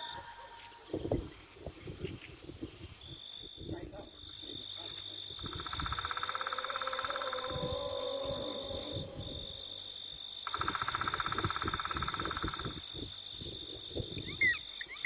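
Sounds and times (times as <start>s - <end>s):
insect pulsing trill: 0.0s - 15.0s
insects high-pitched whine: 0.0s - 15.0s.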